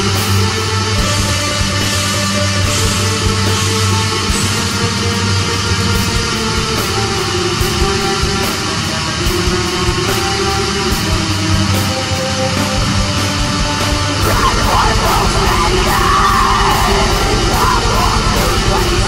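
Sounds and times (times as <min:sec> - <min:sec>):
distorted electric guitars: 0:00.0 - 0:19.0
fast driving drums: 0:00.0 - 0:19.0.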